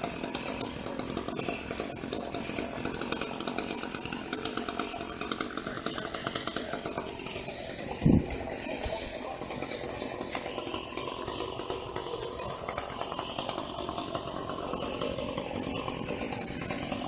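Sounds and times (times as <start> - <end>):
chainsaw running: 0.0 - 17.0.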